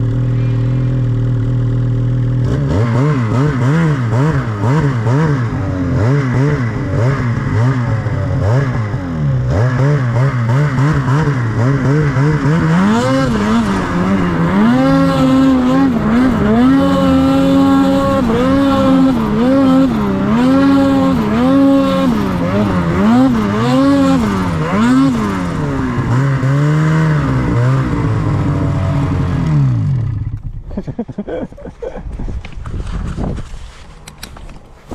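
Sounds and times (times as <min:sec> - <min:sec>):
snowmobile engine revving: 0:00.0 - 0:32.0.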